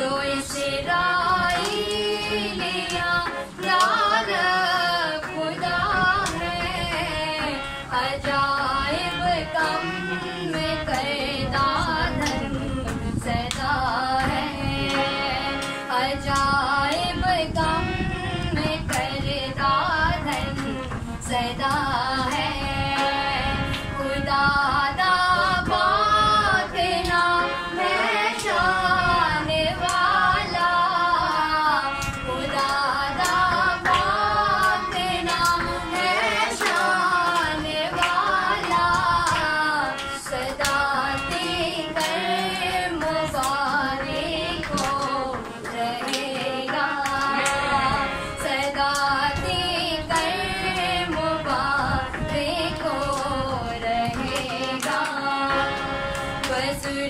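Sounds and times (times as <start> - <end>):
woman singing: 0.0 - 55.8, 56.4 - 57.0.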